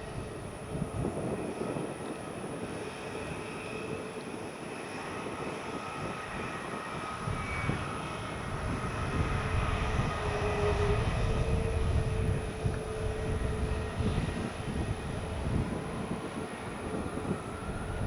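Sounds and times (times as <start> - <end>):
jet engines whining and rumbling: 0.0 - 18.0.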